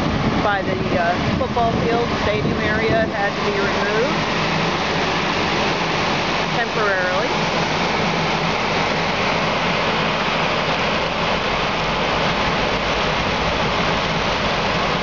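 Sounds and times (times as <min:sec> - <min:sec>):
continuous hiss: 0:00.0 - 0:15.0
diesel engine idling: 0:00.0 - 0:15.0.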